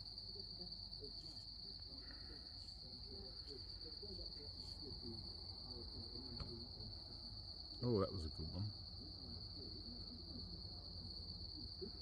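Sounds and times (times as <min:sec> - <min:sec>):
faint distant voices: 0:00.0 - 0:12.0
night insects trilling: 0:00.0 - 0:12.0.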